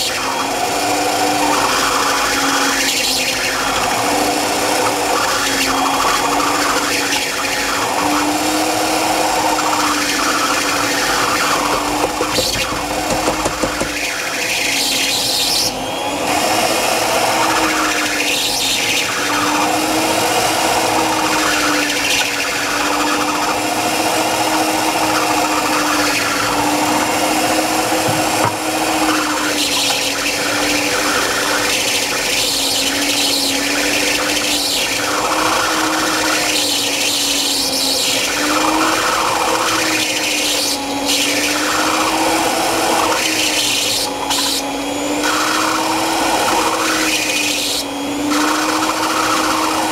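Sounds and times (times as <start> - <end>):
stand mixer motor hum: 0.0 - 49.9.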